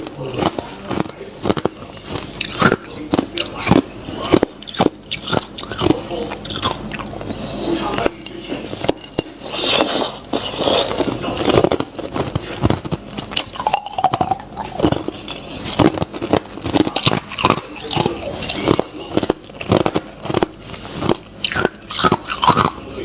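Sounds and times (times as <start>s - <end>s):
ice being chewed: 0.0s - 23.0s.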